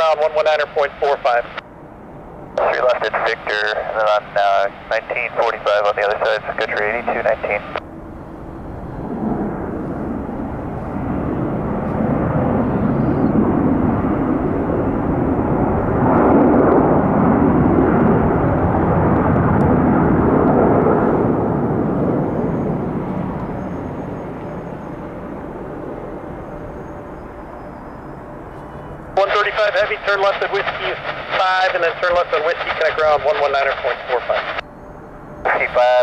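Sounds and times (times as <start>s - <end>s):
airliner jet engines landing: 0.0s - 36.0s.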